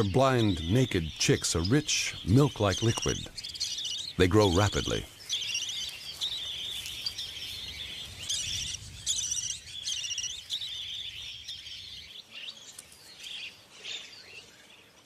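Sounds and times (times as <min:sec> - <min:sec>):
budgerigars chattering: 0:00.0 - 0:12.6.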